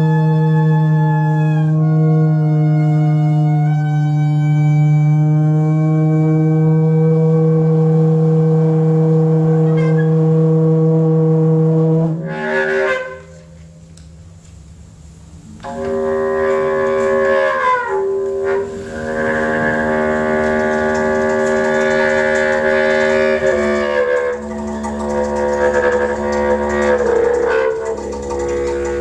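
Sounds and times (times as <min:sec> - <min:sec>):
conch shell horn: 0:00.0 - 0:13.8, 0:15.6 - 0:29.0
bass clarinet sustained notes: 0:00.0 - 0:14.0, 0:15.4 - 0:29.0.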